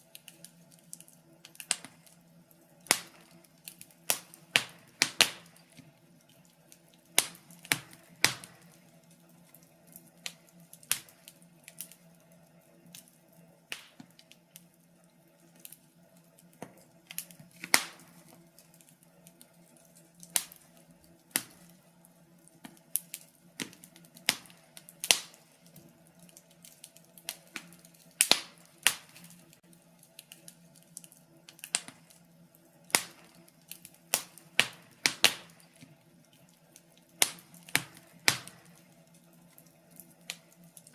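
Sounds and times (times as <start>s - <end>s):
faint steady hum: 0.0s - 40.9s
fire crackling in a fireplace: 0.0s - 40.9s.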